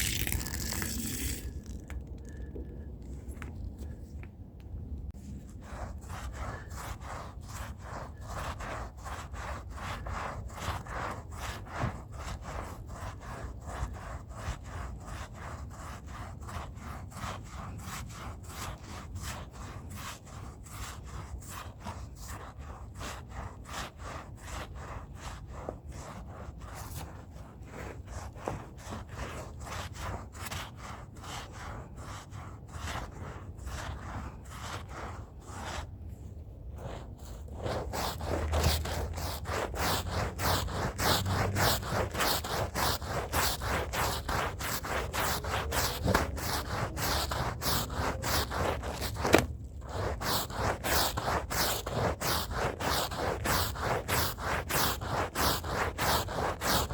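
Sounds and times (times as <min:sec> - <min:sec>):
stiff brush scrubbing a rug: 0:00.0 - 0:01.8, 0:05.2 - 0:56.9.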